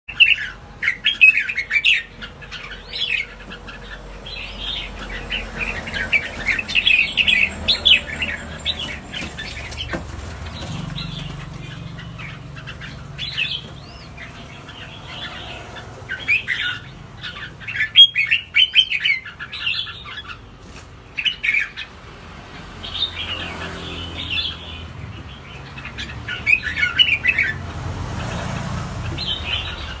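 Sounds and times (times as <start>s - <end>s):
songbirds chirping: 0.1s - 30.0s.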